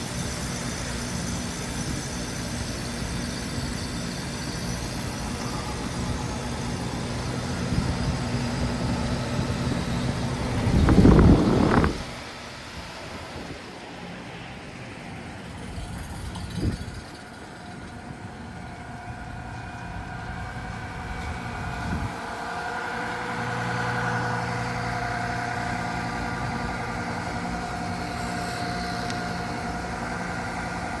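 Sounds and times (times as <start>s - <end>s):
heat pump compressor hum: 0.0s - 31.0s.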